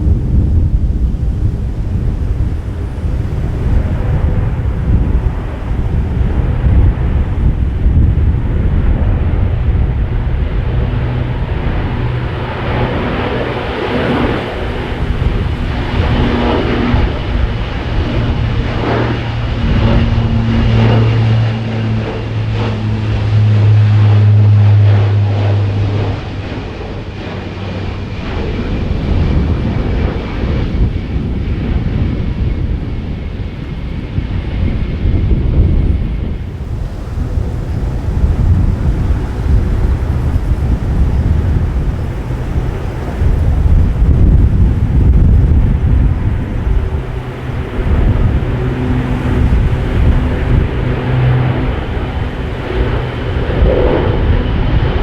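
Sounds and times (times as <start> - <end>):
faint turbine whine: 0.0 - 55.0
propeller aircraft drone: 0.0 - 55.0
wind buffeting microphone: 0.0 - 55.0.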